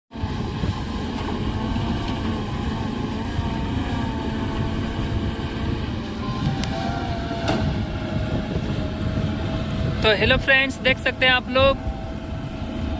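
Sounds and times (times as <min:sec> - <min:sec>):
heavy diesel machinery rumbling: 0:00.1 - 0:12.9.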